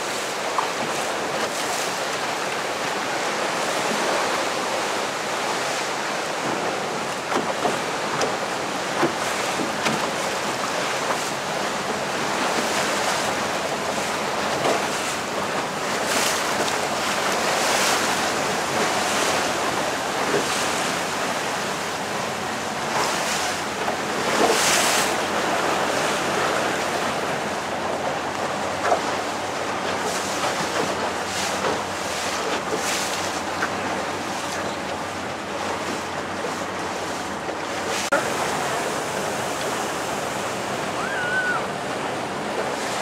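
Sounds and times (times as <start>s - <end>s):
waves splashing against rocks: 0.0s - 43.0s.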